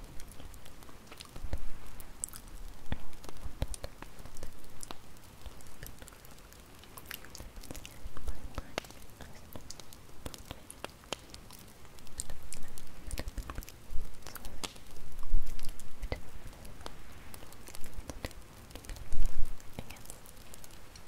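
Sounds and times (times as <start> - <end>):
campfire crackling: 0.0 - 21.0
low hiss of fire: 0.0 - 21.0.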